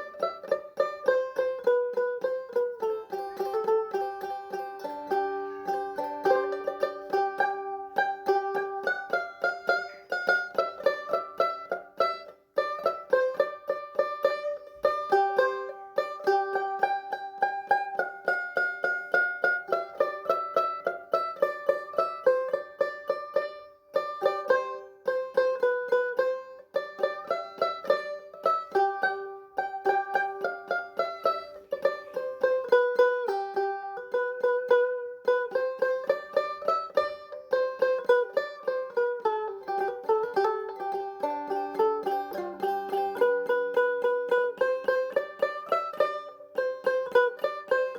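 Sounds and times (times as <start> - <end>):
plucked string instrument melody: 0.0 - 47.9.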